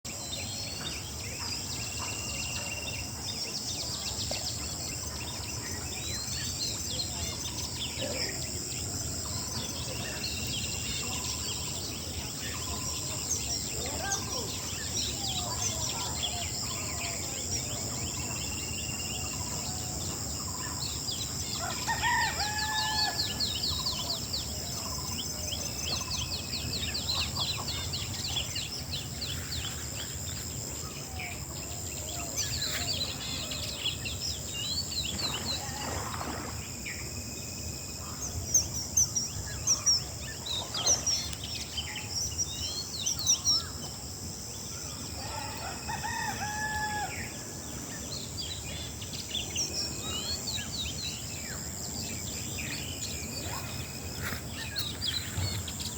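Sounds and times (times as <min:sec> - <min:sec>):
small birds chirping and trilling: 0:00.1 - 0:55.9.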